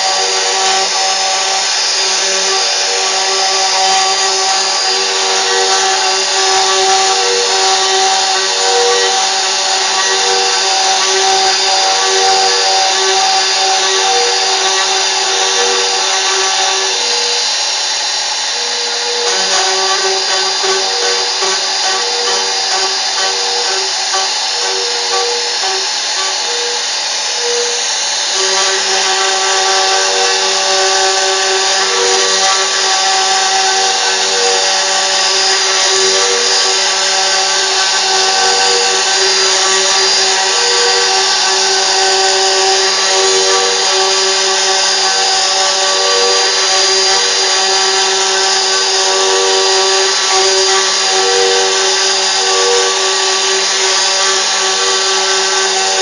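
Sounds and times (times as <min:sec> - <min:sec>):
cnc router spindle whine: 0:00.0 - 0:56.0.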